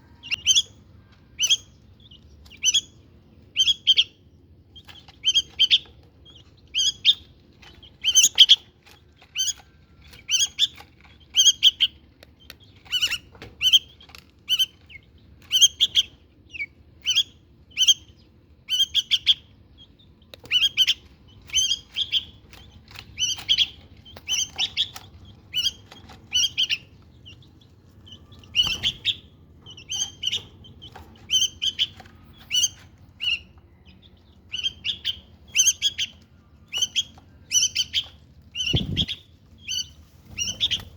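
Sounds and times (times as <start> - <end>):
bulbuls chirping: 0.0 - 40.9.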